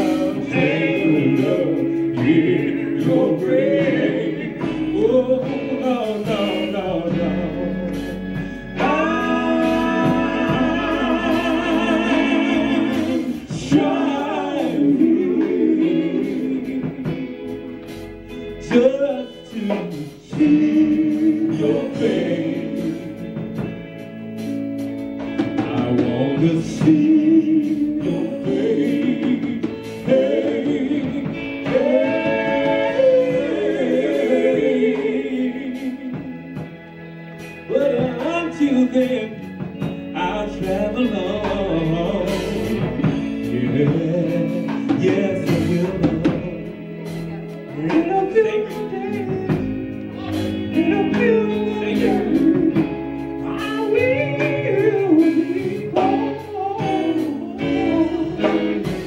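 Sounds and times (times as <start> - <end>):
male quartet singing in harmony: 0.0 - 59.0.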